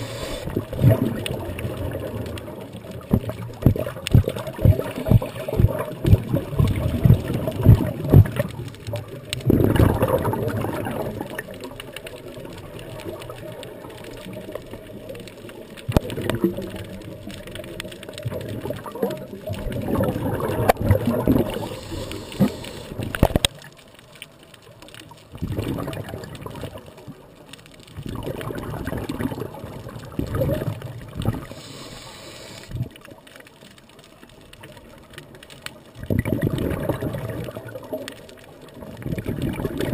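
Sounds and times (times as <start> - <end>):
underwater bubbles gushing: 0.0 - 39.9.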